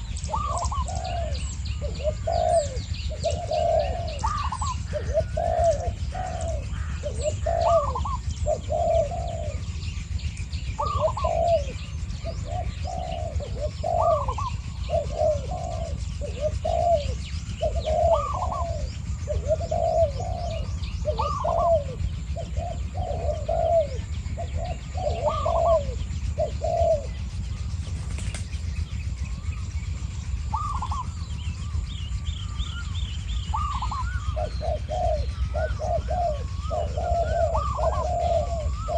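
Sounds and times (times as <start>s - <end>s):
doves cooing: 0.0s - 38.9s
low steady rumble: 0.0s - 38.9s
small birds chirping: 0.0s - 38.9s.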